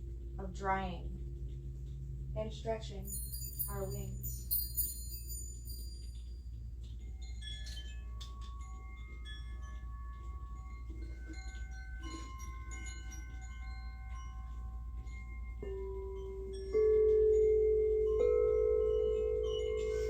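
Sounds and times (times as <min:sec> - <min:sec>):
light bell-like ringing tones: 0:02.9 - 0:20.0.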